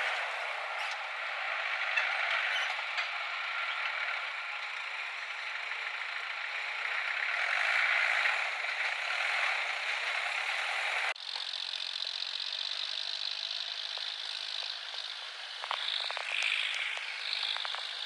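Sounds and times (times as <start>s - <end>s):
tractor engine clattering: 0.0s - 18.0s.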